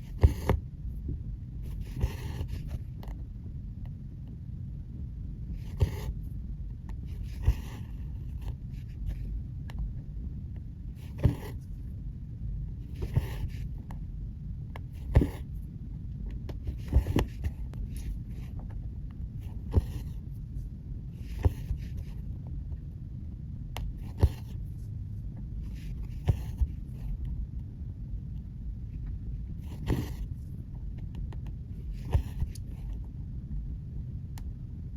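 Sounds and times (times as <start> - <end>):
low steady rumble: 0.0 - 34.9.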